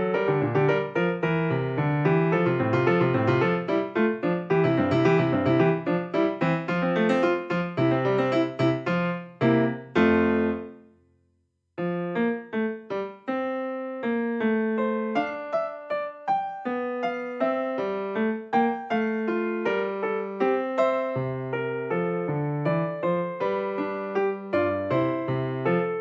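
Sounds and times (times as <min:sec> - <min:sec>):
piano music: 0:00.0 - 0:10.9, 0:11.8 - 0:26.0.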